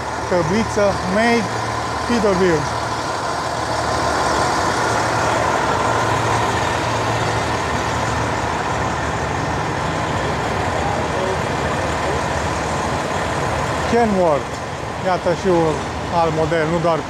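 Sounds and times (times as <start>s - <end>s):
diesel truck engines idling: 0.0s - 17.0s.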